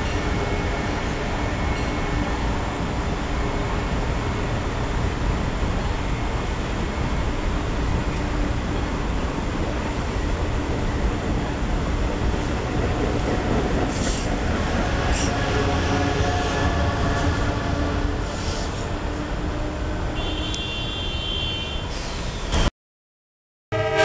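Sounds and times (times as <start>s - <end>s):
train passing at speed: 0.0s - 22.7s, 23.7s - 24.0s.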